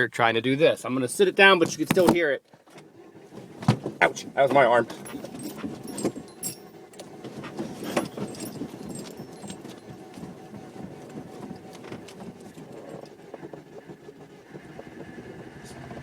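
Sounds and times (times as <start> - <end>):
car engine sputtering: 0.0 - 16.0.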